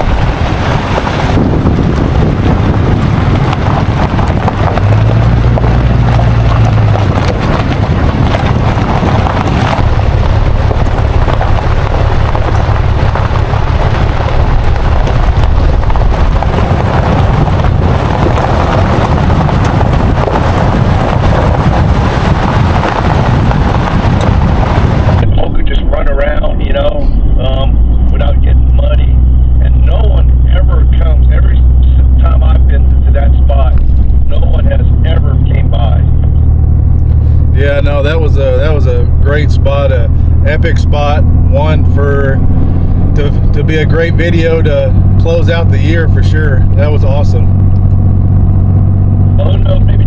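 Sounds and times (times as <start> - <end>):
vehicle road and engine noise: 0.0 - 50.0
wind buffeting microphone: 0.0 - 50.0.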